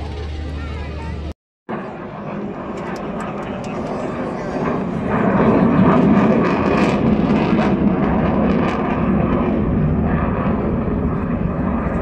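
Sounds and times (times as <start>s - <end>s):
fighter jet passing overhead: 0.0s - 12.0s.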